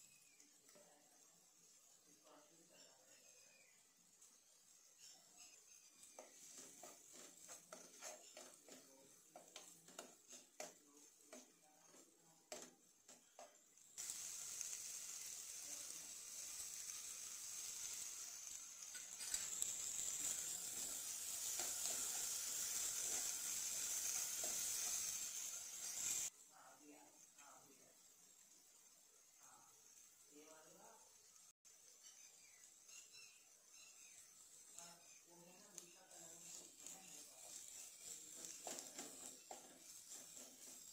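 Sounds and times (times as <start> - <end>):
frying sizzle: 0.0 - 40.9
spoon stirring vegetables in pan: 0.1 - 26.3, 31.2 - 40.9.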